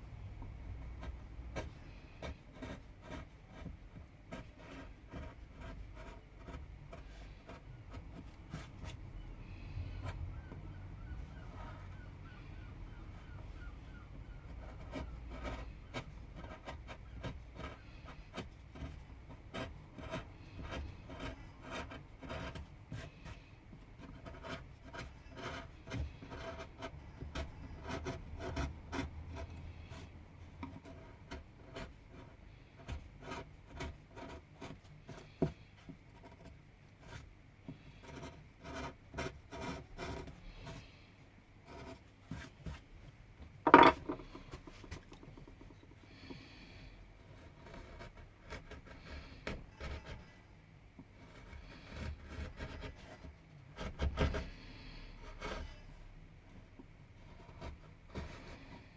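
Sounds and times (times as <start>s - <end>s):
carving tool scraping wood: 0.7s - 41.0s, 41.6s - 42.8s, 43.6s - 50.4s, 51.0s - 58.9s.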